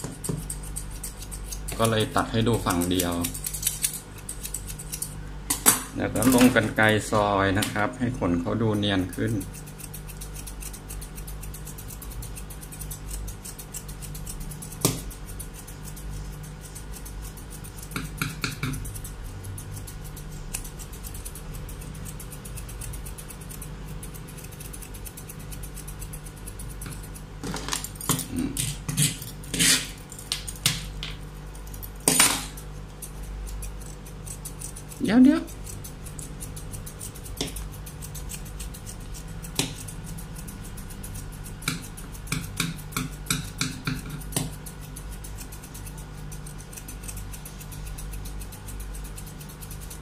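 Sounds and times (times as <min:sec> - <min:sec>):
scissors snipping fur: 0:00.0 - 0:50.0
steady low hum: 0:00.0 - 0:50.0.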